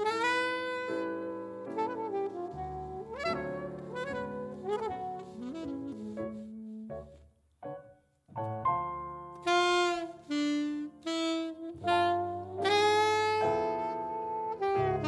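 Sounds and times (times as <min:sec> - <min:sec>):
saxophone playing jazz ballad: 0:00.0 - 0:07.2, 0:09.2 - 0:15.0
piano chords: 0:00.0 - 0:15.0.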